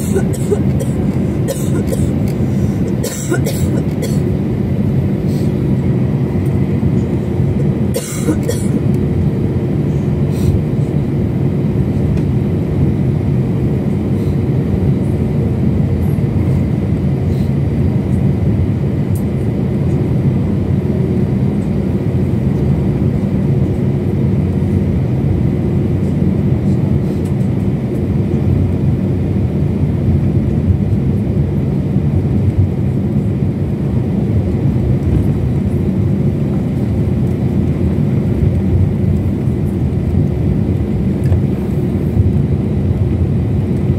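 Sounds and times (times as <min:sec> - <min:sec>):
airliner engine rumble in cabin: 0:00.0 - 0:43.9.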